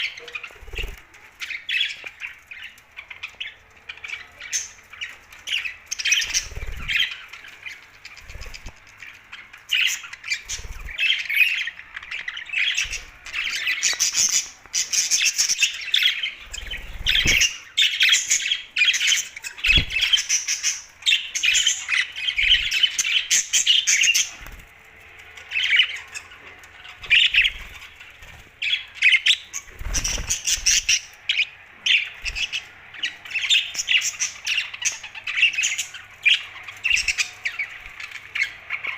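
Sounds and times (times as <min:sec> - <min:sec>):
budgerigars chattering and squawking: 0:00.0 - 0:24.6, 0:25.2 - 0:38.9.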